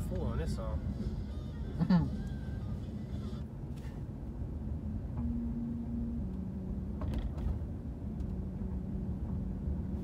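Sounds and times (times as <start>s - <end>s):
road and engine rumble in car: 0.0s - 10.0s
faint held drone: 0.4s - 10.0s.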